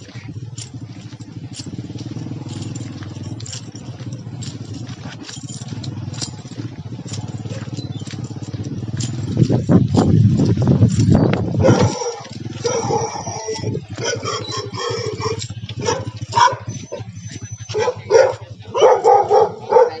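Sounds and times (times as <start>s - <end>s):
light clicks and rattles: 0.0s - 17.0s
small motorcycle engine running: 0.0s - 20.0s.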